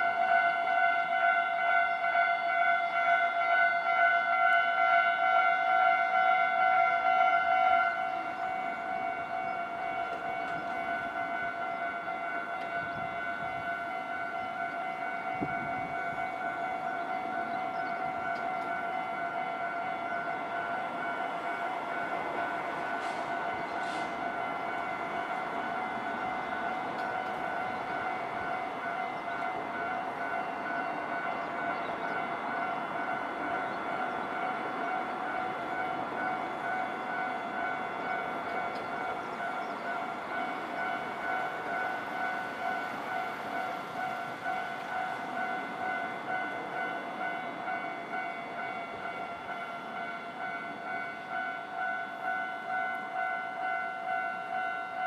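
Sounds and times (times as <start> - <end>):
level-crossing alarm ringing: 0.0 - 55.0.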